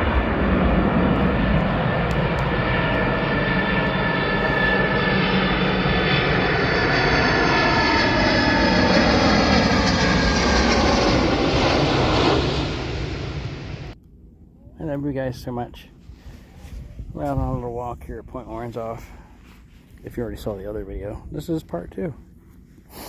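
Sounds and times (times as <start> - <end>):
airplane engine passing overhead: 0.0 - 23.0.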